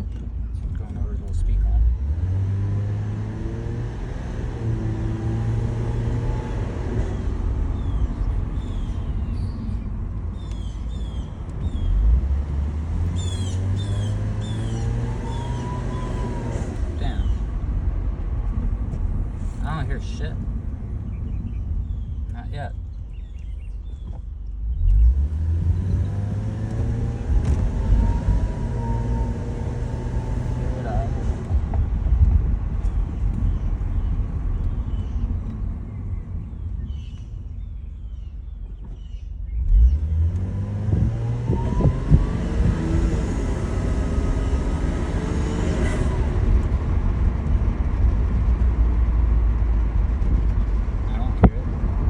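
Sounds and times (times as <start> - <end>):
car engine rumble: 0.0 - 52.0
road noise: 0.0 - 52.0.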